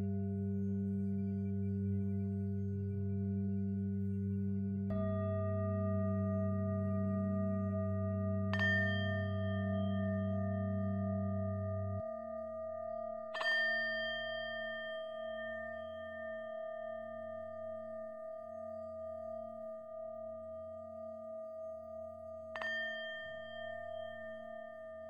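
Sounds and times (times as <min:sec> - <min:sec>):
ambient meditation music drone: 0:00.0 - 0:25.0.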